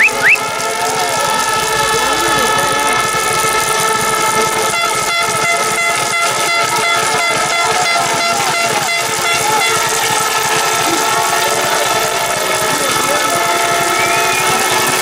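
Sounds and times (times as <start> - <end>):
regular beat: 0.0 - 13.7
crowd blowing air horns: 0.0 - 15.0.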